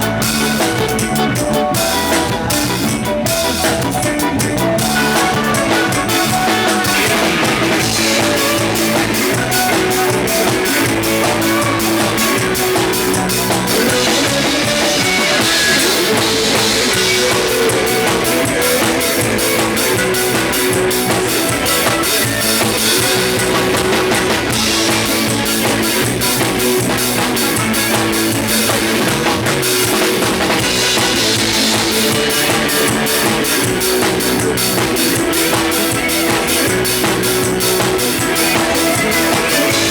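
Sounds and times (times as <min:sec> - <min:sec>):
band playing: 0:00.0 - 0:39.9
driving drum beat: 0:00.0 - 0:39.9.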